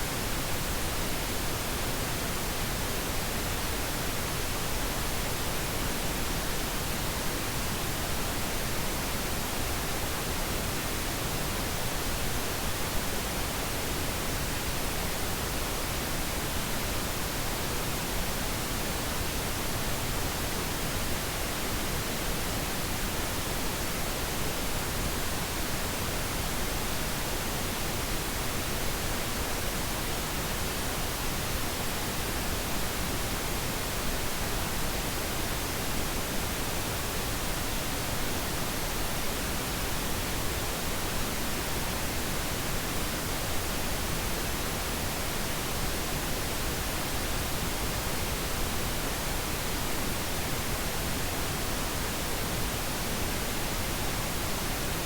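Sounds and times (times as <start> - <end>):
steady pink noise hiss: 0.0 - 55.0.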